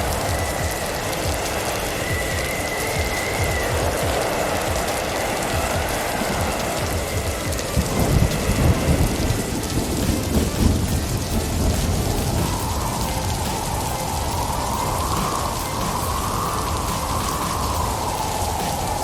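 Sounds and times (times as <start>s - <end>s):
wind and snow hissing: 0.0s - 19.0s.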